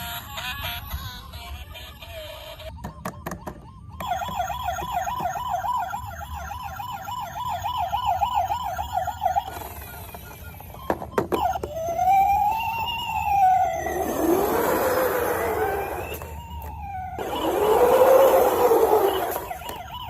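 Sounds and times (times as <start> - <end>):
toy electronic siren warbling: 0.0 - 20.0.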